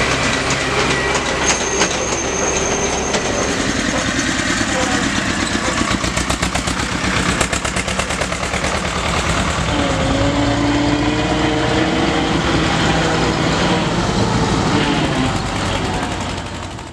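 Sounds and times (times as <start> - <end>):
combine harvester diesel engine: 0.0 - 16.9
tractor engine firing pulses: 0.0 - 16.9.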